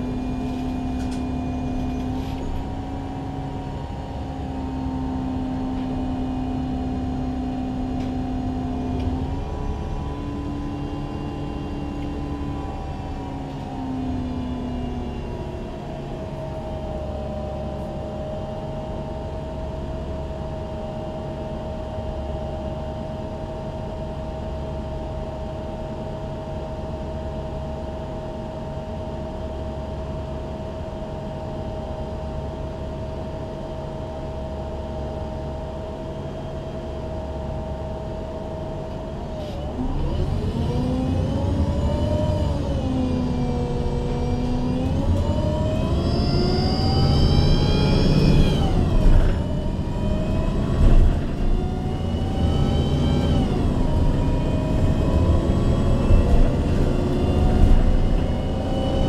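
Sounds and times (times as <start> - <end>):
bus pulling away: 0.0 - 25.0, 34.0 - 59.0
bus engine idling whine: 0.0 - 59.0.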